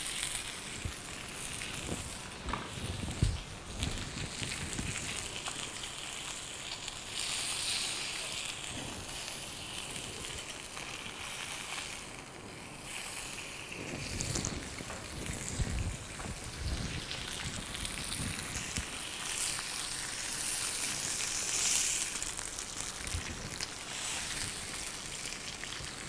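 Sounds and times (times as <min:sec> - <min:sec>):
fish sizzling on grill pan: 0:00.0 - 0:26.0.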